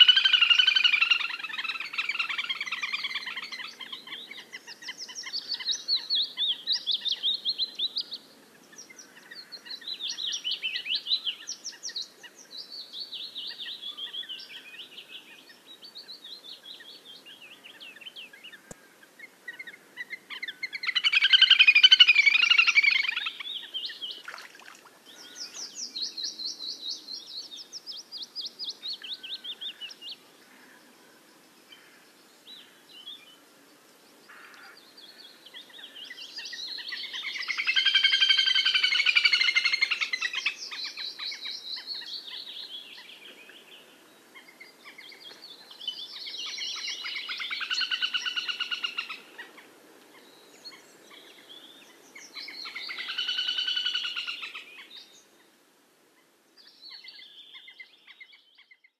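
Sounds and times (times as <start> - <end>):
songbirds singing trills: 0.0 - 58.9.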